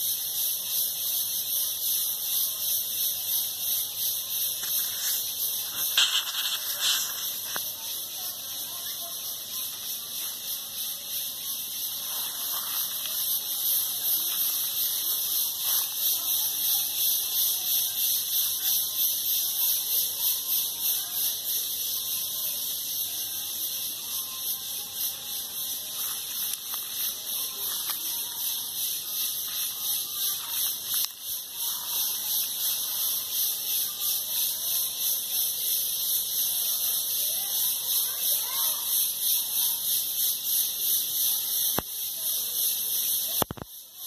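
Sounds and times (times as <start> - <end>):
cicadas buzzing: 0.0 - 44.0.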